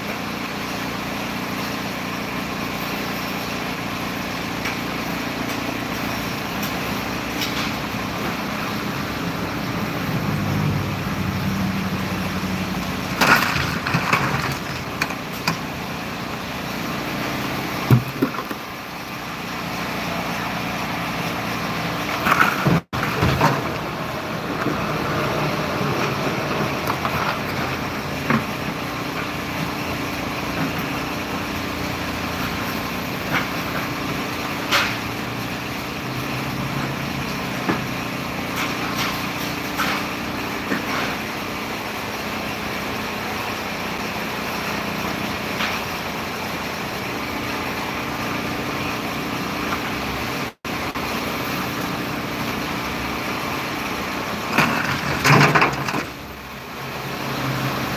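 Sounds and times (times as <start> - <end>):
heavy vehicle engine running: 0.0 - 57.9.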